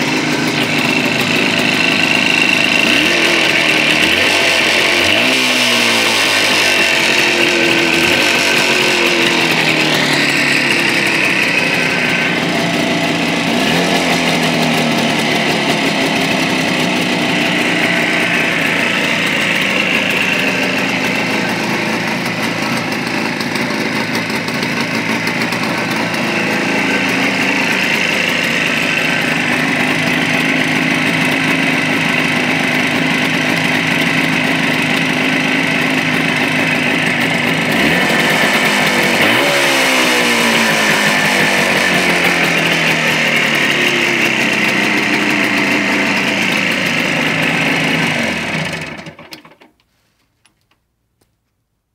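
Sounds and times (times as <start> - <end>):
motorcycle engine idling: 0.0 - 49.7.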